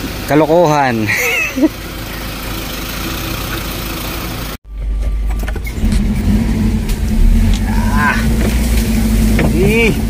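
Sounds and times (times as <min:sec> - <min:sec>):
off-road vehicle engine running: 0:00.0 - 0:10.0.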